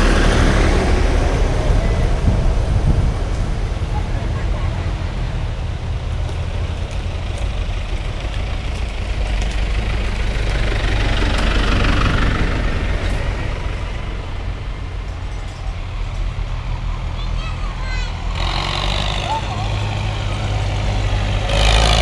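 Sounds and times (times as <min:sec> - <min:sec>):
distant tractor drone: 0:00.0 - 0:22.0
tractor diesel engine passing: 0:00.0 - 0:22.0.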